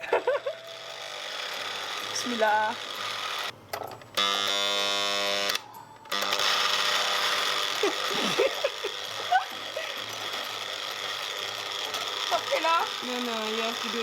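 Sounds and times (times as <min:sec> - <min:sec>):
electric hand mixer whining: 0:00.0 - 0:03.6, 0:04.2 - 0:14.0.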